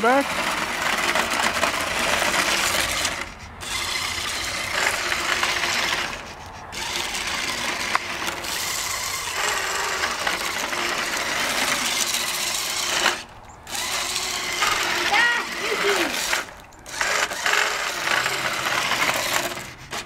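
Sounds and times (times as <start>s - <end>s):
toy car electric motor whirring: 0.0s - 20.0s.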